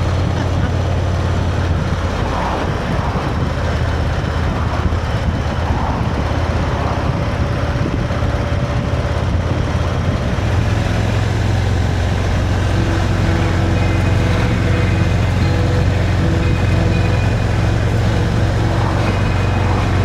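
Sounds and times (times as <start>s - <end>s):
motorcycle engine running: 0.0s - 20.0s
wind rush: 0.0s - 20.0s.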